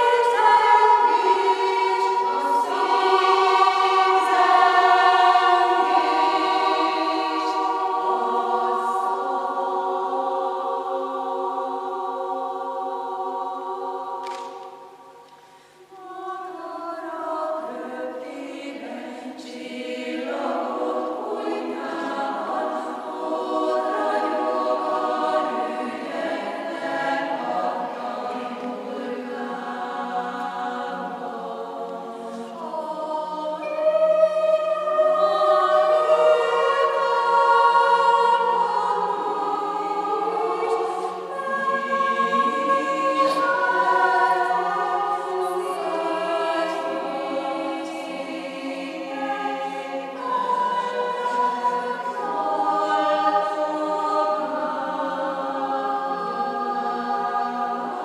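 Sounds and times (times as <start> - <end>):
women's choir singing unaccompanied: 0.0 - 58.0.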